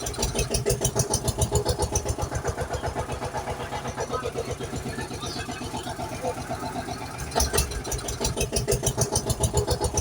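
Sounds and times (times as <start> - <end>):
vehicle engine chugging: 0.0 - 10.0.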